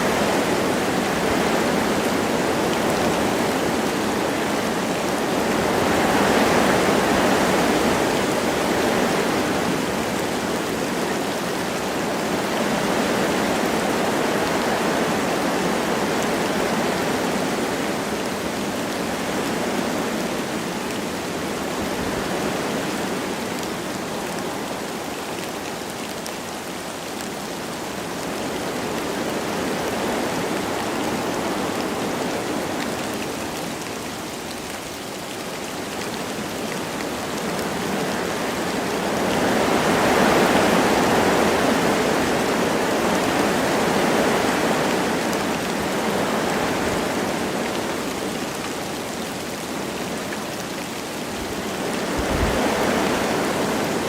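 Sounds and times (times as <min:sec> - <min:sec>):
light rain: 0:00.0 - 0:54.0
wind through trees: 0:00.0 - 0:54.0.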